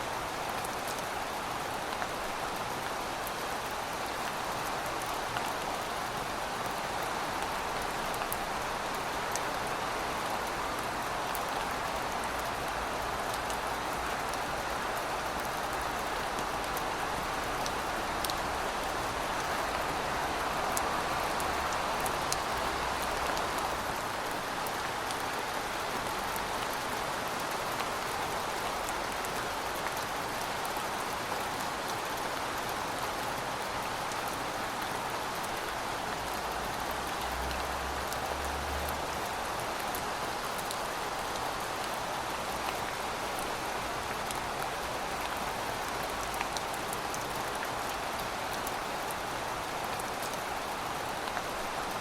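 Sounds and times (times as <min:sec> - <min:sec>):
steady rainfall: 0:00.0 - 0:52.0.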